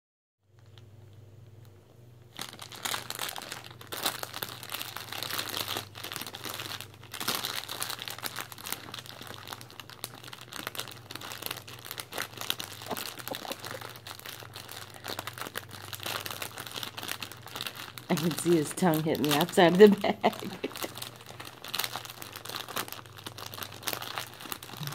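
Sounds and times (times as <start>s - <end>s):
snack bag crinkling: 1.6s - 24.9s.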